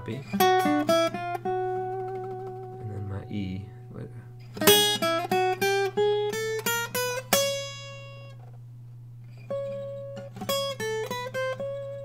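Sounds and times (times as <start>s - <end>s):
acoustic guitar plucked notes: 0.0s - 8.6s, 9.4s - 12.0s.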